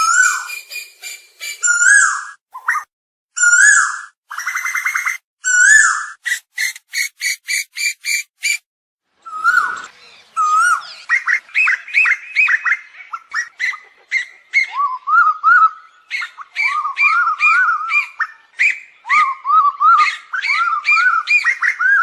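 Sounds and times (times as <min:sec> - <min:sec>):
koel whistled calls: 0:00.0 - 0:08.6, 0:09.2 - 0:22.0
overlapping swooping bird calls: 0:00.0 - 0:08.6, 0:09.3 - 0:22.0.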